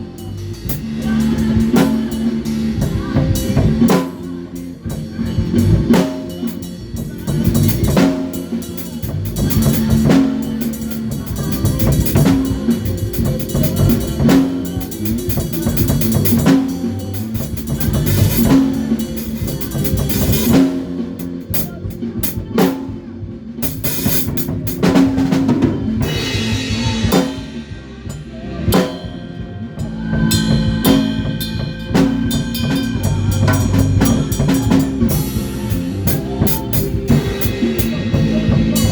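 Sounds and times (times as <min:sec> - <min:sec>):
bass guitar: 0:00.0 - 0:38.9
drum kit beat: 0:00.0 - 0:38.9.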